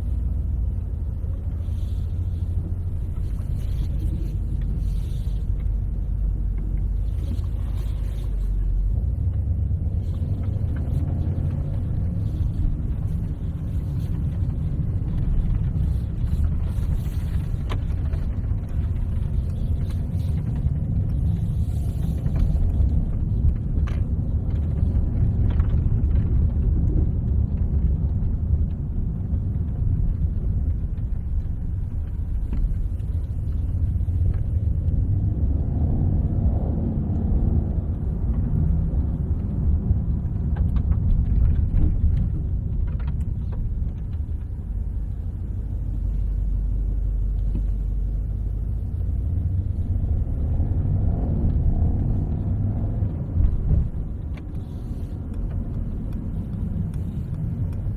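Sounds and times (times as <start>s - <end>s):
car engine rumble: 0.0s - 57.9s
road noise: 0.0s - 57.9s.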